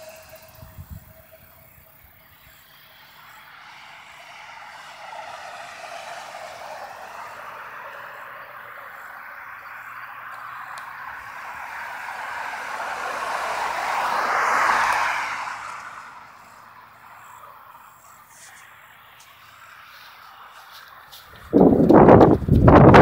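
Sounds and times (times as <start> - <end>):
car passing by: 0.0 - 23.0.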